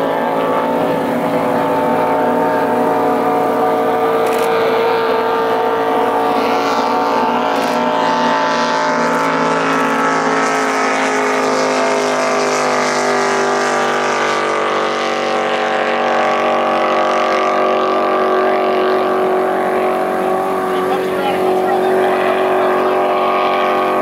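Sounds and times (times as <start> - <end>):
race boat engine drone: 0.0 - 24.0.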